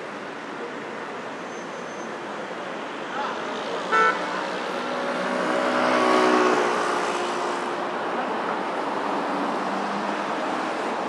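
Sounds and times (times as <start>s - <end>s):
steady traffic: 0.0s - 11.0s.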